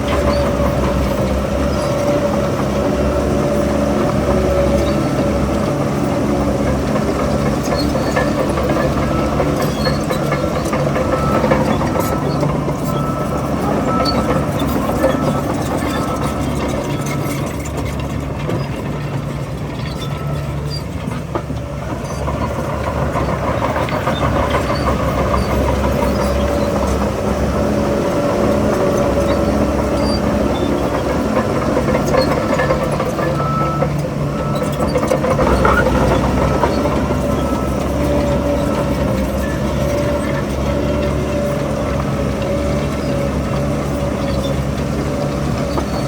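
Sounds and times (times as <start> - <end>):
heavy diesel machinery running: 0.0 - 46.0.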